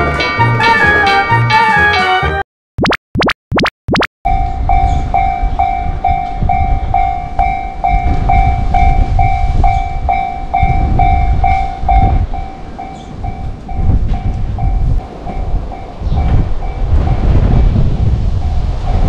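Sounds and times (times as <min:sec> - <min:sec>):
level-crossing warning bell ringing: 0:00.0 - 0:02.2, 0:04.3 - 0:19.0.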